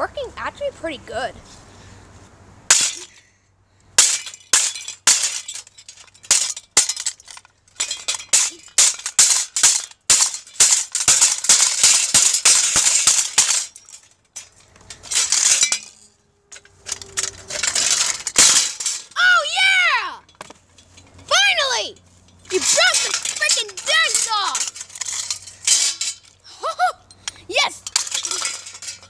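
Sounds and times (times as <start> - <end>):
loose fan parts rattling: 2.7 - 3.3, 3.9 - 29.0.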